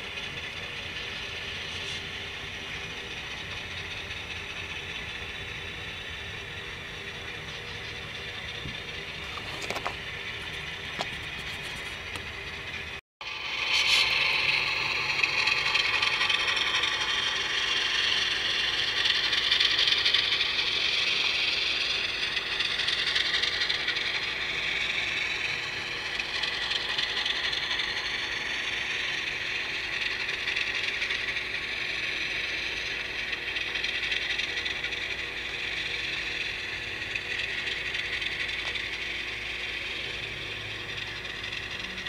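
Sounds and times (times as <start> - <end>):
model train cars rattling on track: 0.0 - 42.0.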